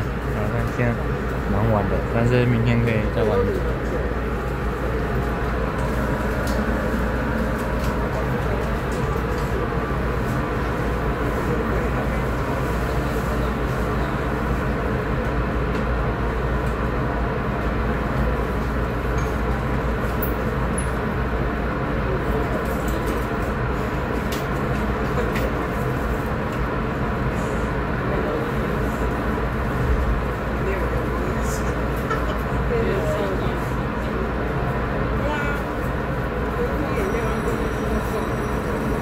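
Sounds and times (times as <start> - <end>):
train carriage rumble and hiss: 0.0 - 39.0.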